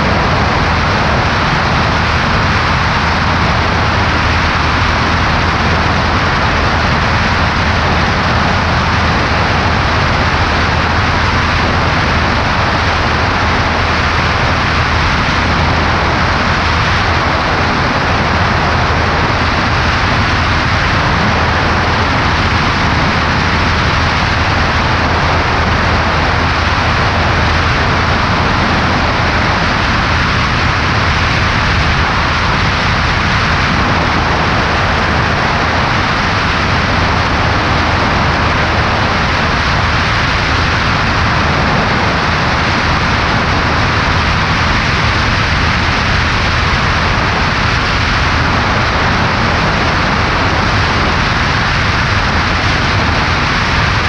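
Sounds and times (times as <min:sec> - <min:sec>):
airplane engine droning: 0:00.0 - 0:54.0
wind rushing over microphone: 0:00.0 - 0:54.0.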